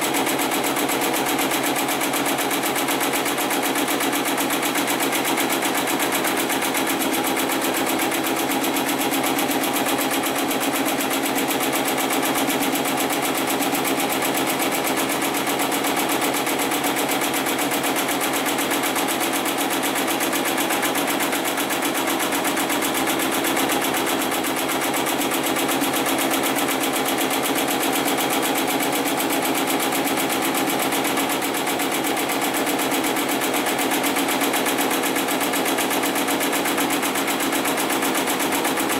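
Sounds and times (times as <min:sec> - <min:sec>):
sewing machine stitching: 0:00.0 - 0:38.9.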